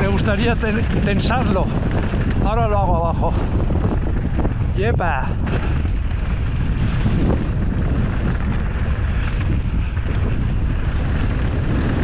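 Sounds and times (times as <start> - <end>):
tyres rolling over gravel: 0.0 - 12.0
wind rushing over microphone: 0.0 - 12.0.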